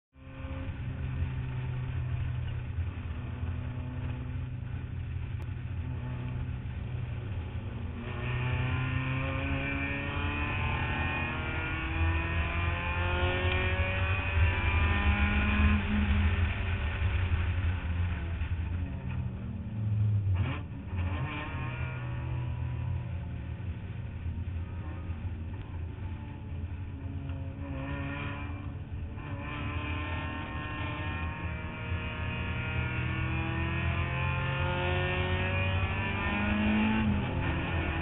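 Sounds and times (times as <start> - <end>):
race car engine accelerating: 0.2 - 38.0.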